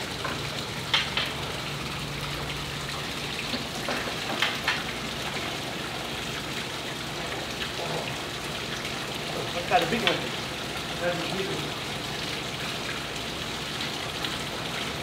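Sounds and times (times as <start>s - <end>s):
water running from hoses: 0.0s - 15.0s.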